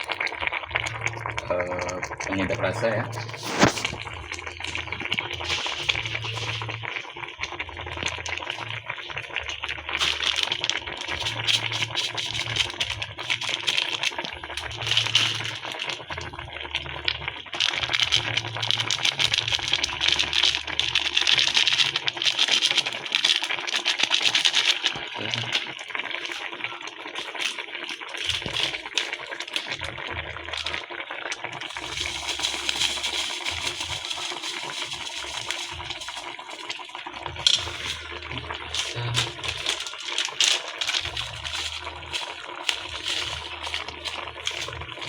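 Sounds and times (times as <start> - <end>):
utensil stirring a pot: 0.0 - 45.0.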